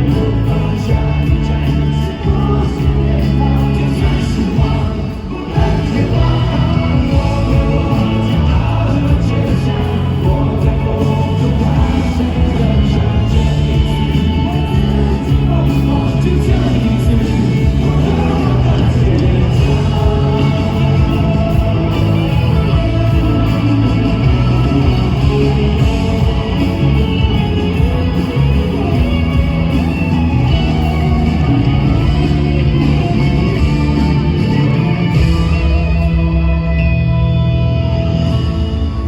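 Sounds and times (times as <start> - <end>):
drums: 0.0 - 39.0
electric guitars: 0.0 - 39.0
live rock band: 0.0 - 39.0
singing and shouted vocals: 0.0 - 39.0
sustained bass notes: 0.0 - 39.0.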